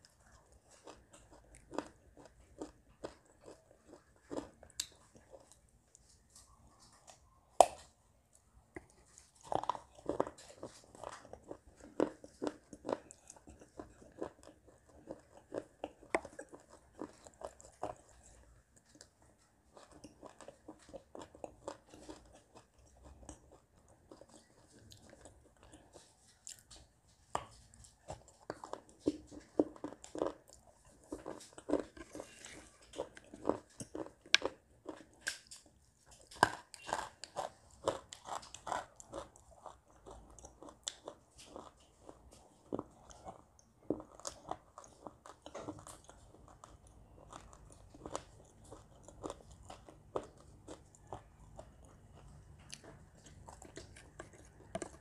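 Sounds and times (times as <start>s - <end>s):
person biting and chewing: 0.3s - 8.0s, 8.8s - 19.0s, 27.4s - 55.0s.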